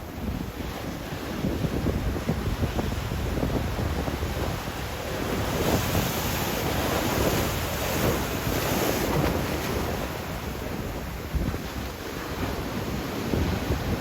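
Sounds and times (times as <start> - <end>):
ocean surf breaking: 0.0 - 14.0
wind rumble on microphone: 0.0 - 14.0.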